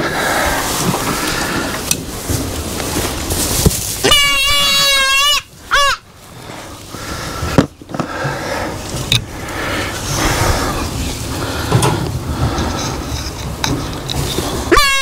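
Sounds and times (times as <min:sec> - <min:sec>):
rustling in straw: 0:00.0 - 0:15.0.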